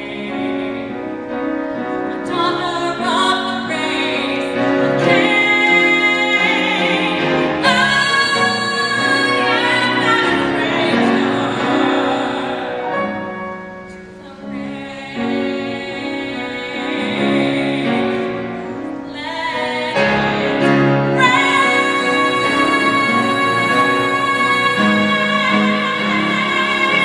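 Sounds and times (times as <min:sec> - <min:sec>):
woman singing with vibrato: 0:00.0 - 0:13.4, 0:14.0 - 0:27.0.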